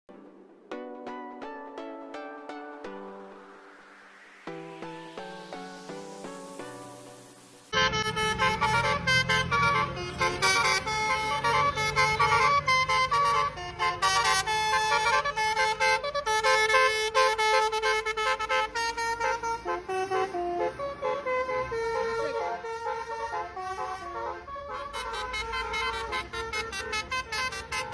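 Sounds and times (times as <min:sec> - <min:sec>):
bus horns playing melodic phrases: 0:04.8 - 0:27.9.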